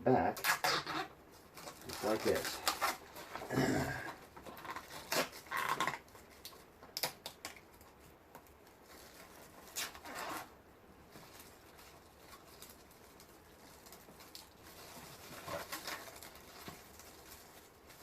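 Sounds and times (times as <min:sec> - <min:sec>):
plastic film peeling with rustles: 0:00.2 - 0:18.0.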